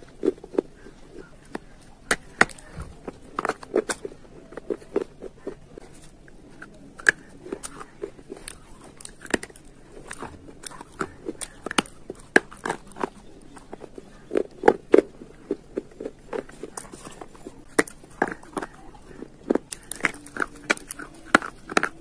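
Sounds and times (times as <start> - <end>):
slate pencil crunching when chewed: 0.0 - 22.0.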